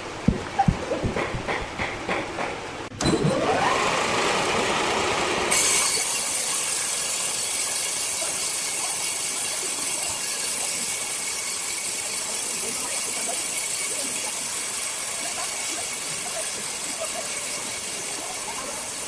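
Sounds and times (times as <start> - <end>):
circular saw whining: 3.0 - 19.0.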